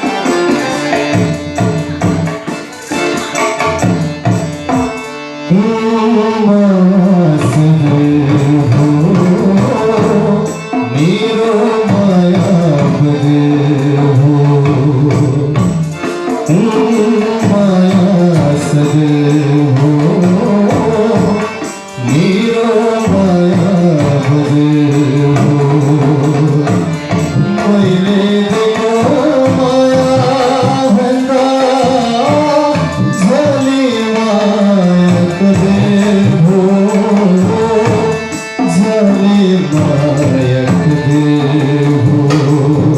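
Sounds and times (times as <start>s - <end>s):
hand drums: 0.0s - 5.6s, 6.9s - 42.9s
instrumental backing music: 0.0s - 42.9s
man singing: 3.4s - 42.9s.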